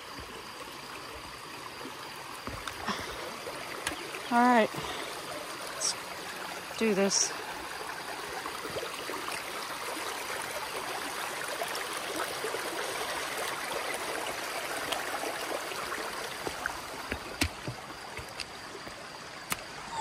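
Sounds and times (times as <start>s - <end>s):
creek rushing over stones: 0.0s - 20.0s.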